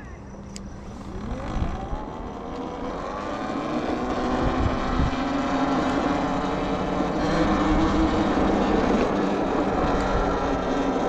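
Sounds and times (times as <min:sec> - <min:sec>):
wind rumble on microphone: 0:00.0 - 0:11.0
electric motor whining: 0:00.6 - 0:11.0.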